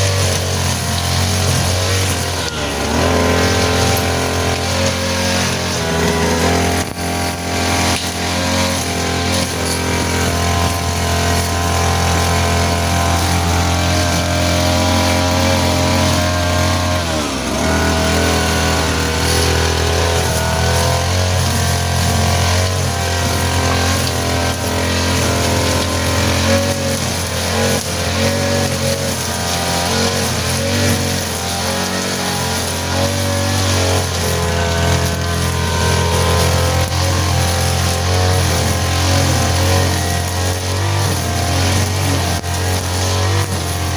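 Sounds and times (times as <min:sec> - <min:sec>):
grass cutter engine running: 0:00.0 - 0:43.9.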